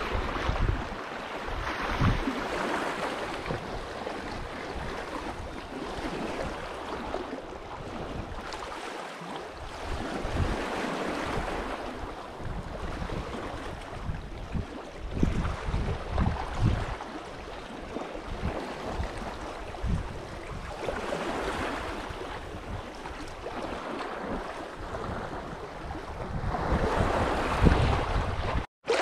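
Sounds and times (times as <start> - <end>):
waves breaking on shore: 0.0 - 29.0.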